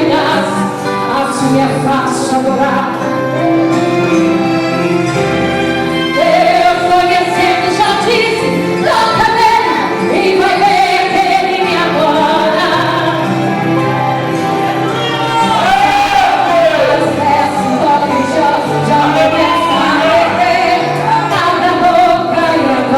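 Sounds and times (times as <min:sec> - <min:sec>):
woman singing gospel: 0:00.0 - 0:03.5, 0:06.1 - 0:14.3, 0:14.9 - 0:22.9
instrumental backing: 0:00.0 - 0:22.9.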